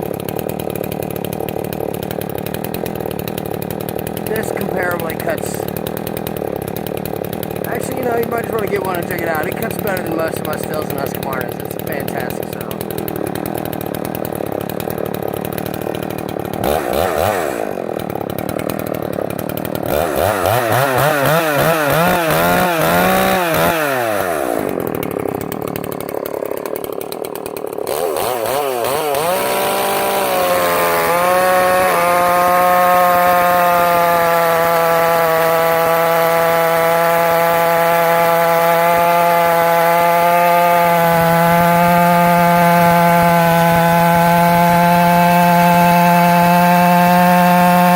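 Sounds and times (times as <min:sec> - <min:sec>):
chainsaw revving: 0:00.0 - 0:47.9.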